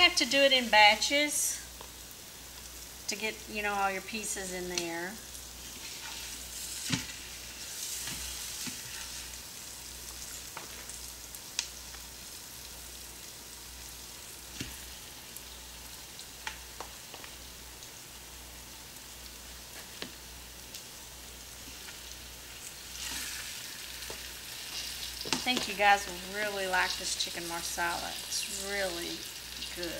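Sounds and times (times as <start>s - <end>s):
chicken sizzling in hot oil: 0.0s - 29.9s.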